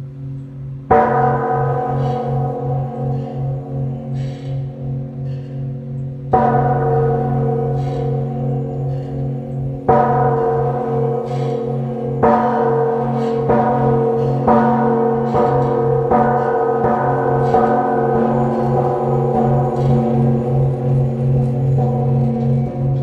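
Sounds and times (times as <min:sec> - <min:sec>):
temple bell ringing: 0:00.0 - 0:23.0.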